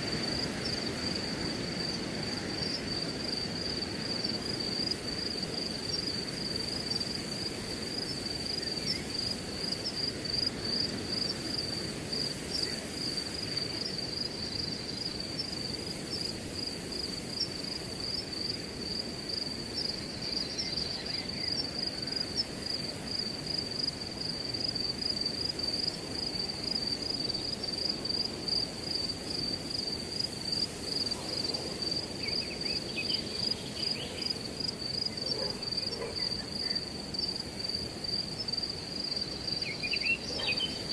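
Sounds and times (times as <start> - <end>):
crickets chirping: 0.0 - 40.9
wind through grass: 0.0 - 40.9.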